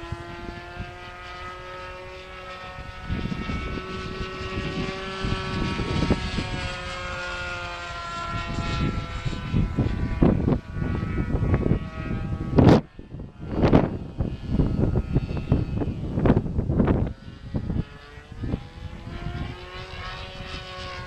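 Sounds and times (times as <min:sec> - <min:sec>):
model plane engine droning: 0:00.0 - 0:21.0
wind buffeting microphone: 0:00.0 - 0:21.0.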